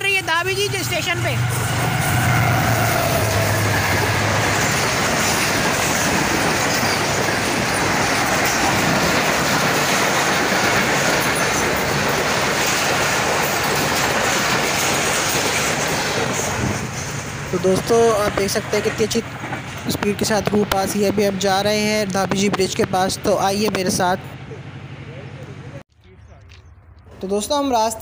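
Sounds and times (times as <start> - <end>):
diesel locomotive engine drone: 0.0 - 28.0
train coaches rushing past: 0.1 - 26.4.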